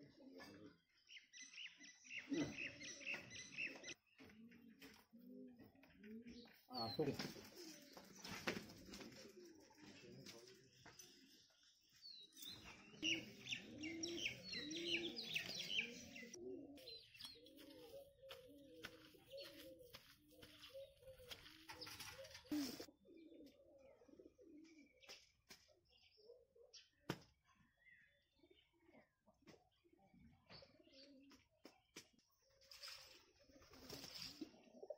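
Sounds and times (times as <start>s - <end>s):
pigeons cooing: 0.0s - 27.1s, 27.7s - 34.9s
small birds chirping: 0.0s - 34.9s.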